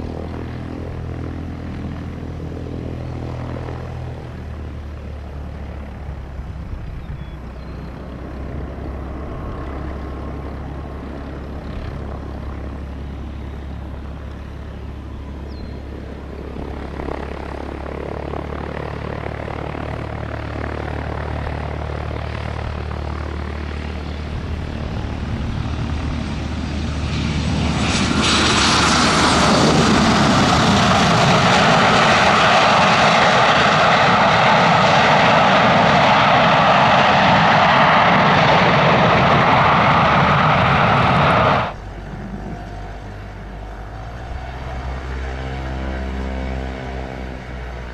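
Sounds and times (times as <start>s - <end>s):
jet landing rumble and rush: 8.1s - 47.9s.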